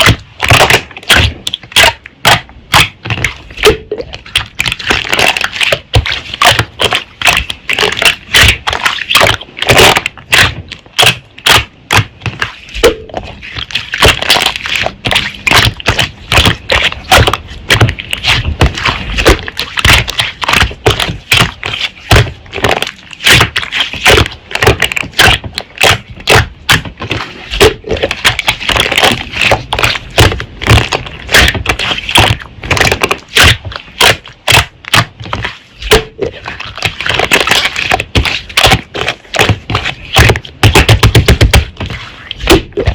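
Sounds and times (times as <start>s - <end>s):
slime crackling and popping: 0.0s - 42.9s.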